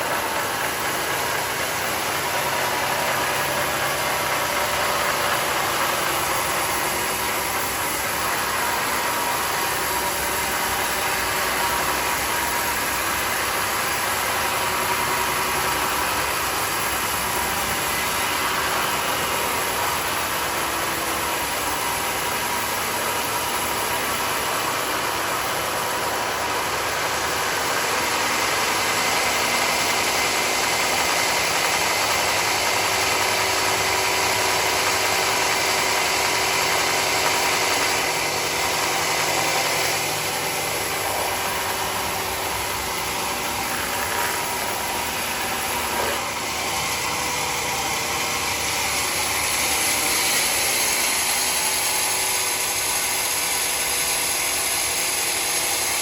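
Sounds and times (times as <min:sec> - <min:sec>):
high machine whine: 0:00.0 - 0:56.0
sawmill machine drone: 0:00.0 - 0:56.0.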